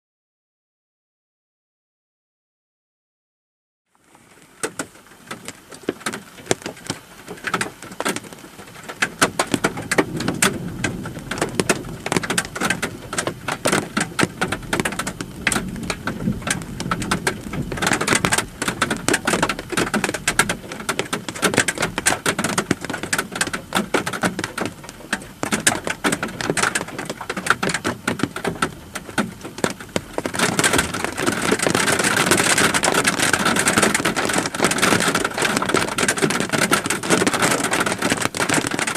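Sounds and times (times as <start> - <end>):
steady rain falling: 3.9 - 38.9.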